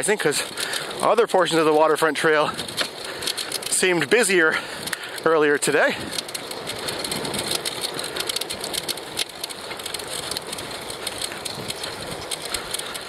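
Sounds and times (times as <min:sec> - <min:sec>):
bicycle tyres on gravel: 0:00.0 - 0:13.0.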